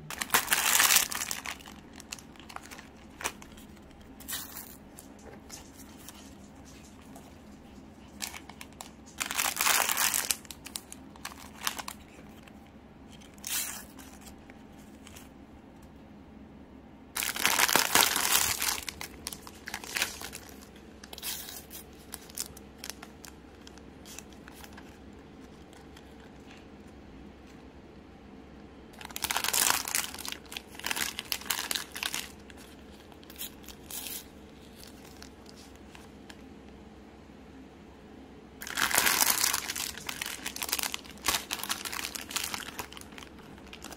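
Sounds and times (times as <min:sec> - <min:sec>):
plastic wrappers crinkling: 0:00.0 - 0:15.3, 0:17.2 - 0:26.7, 0:29.0 - 0:36.4, 0:38.6 - 0:43.9.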